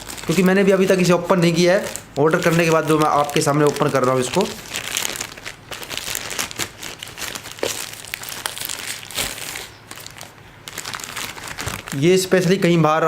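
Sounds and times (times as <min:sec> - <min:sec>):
packaging tearing: 0:00.0 - 0:12.2
packaging crinkling and rustling: 0:00.0 - 0:12.7.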